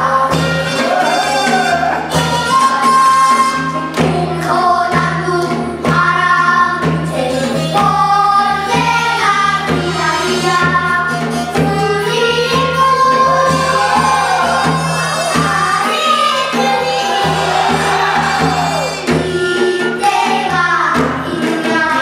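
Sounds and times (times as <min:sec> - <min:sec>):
children's choir singing: 0:00.0 - 0:22.0
instrumental accompaniment: 0:00.0 - 0:22.0
percussion beat: 0:00.0 - 0:22.0.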